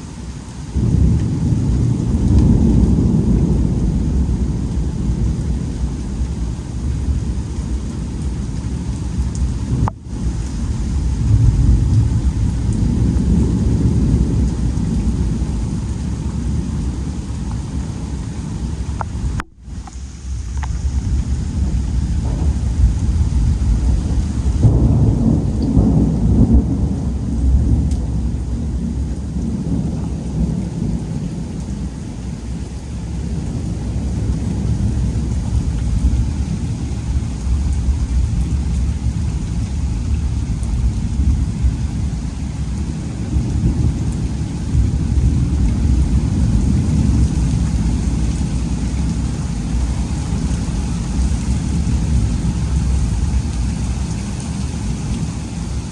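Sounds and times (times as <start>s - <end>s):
steady rain: 0.0s - 55.9s
rolling thunder: 0.7s - 55.9s.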